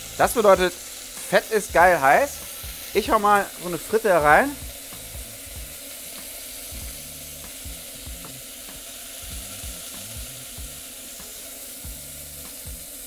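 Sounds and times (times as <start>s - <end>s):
food sizzling in hot fat: 0.0s - 13.0s.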